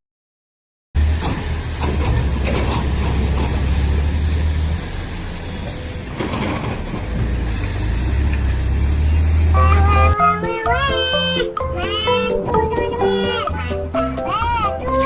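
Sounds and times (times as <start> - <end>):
heavy vehicle engine rumbling: 1.0 - 15.0.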